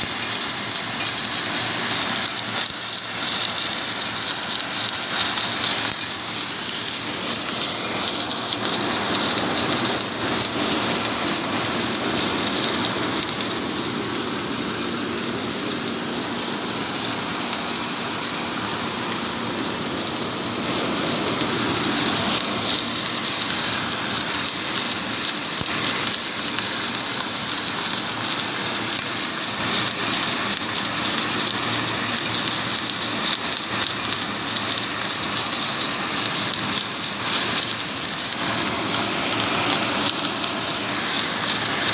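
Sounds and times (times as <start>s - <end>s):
welding hiss: 0.0s - 41.9s.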